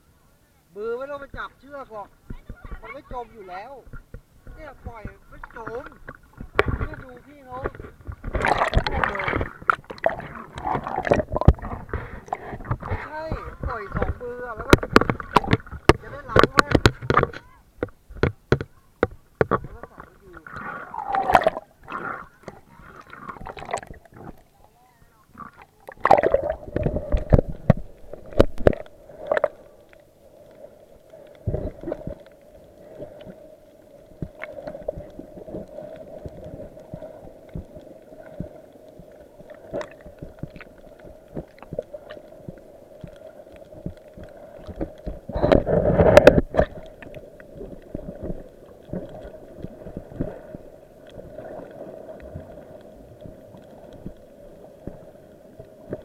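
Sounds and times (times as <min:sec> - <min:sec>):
water gurgling: 0:00.0 - 0:56.0
underwater clicks: 0:03.8 - 0:24.5, 0:25.4 - 0:56.0
splashing or bubbling: 0:03.9 - 0:17.4, 0:19.4 - 0:24.5, 0:25.3 - 0:56.0.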